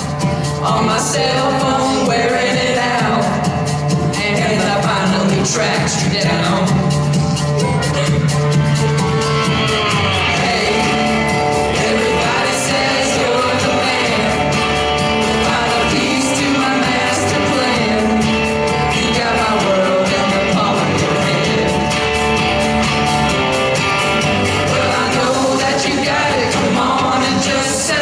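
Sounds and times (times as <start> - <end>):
women singing karaoke: 0.0 - 8.6, 9.5 - 22.0, 24.4 - 28.0
country-rock backing track: 0.0 - 28.0.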